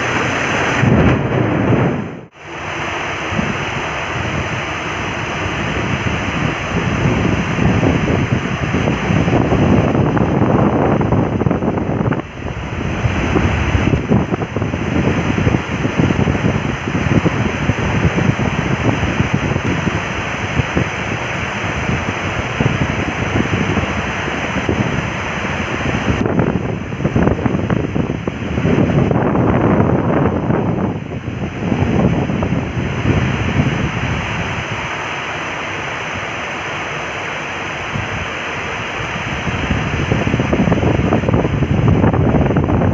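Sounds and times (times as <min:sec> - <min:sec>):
wind buffeting microphone: 0:00.0 - 0:36.8, 0:37.5 - 0:42.9
heavy rain pouring: 0:00.0 - 0:42.9.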